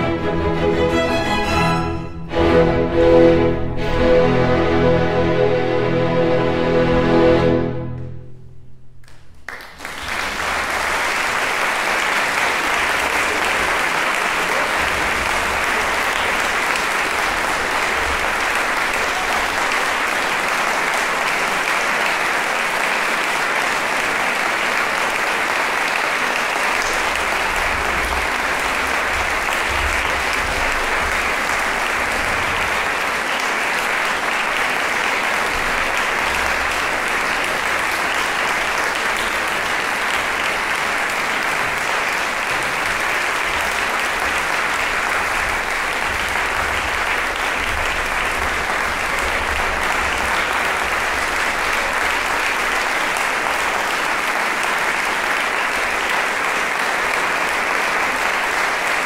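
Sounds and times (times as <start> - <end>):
audience applauding: 9.0 - 59.0.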